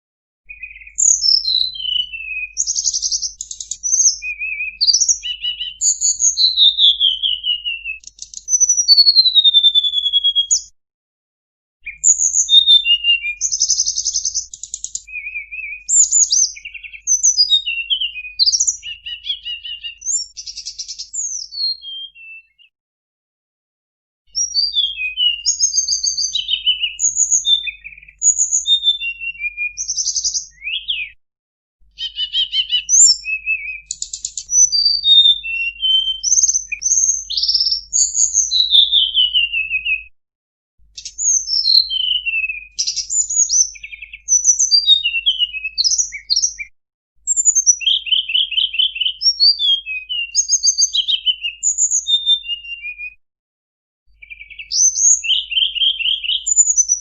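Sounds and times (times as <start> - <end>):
songbird singing: 0.5 - 10.7, 11.8 - 22.7, 24.3 - 31.2, 31.9 - 40.0, 40.9 - 46.7, 47.3 - 53.1, 54.1 - 57.0.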